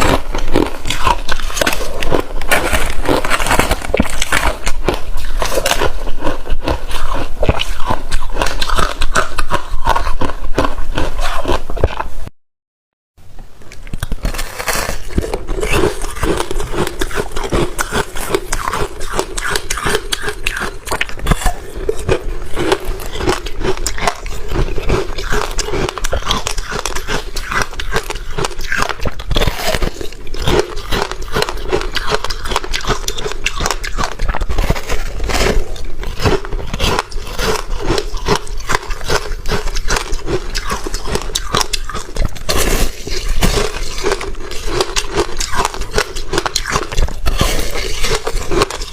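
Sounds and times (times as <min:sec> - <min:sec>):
ice being bitten and crunched: 0:00.0 - 0:12.1, 0:13.9 - 0:48.9.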